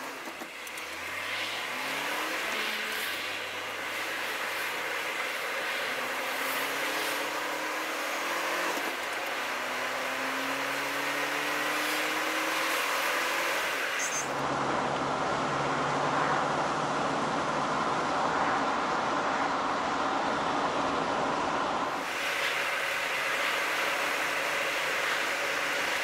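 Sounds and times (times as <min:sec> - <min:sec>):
vehicle engine accelerating: 0:00.0 - 0:26.0.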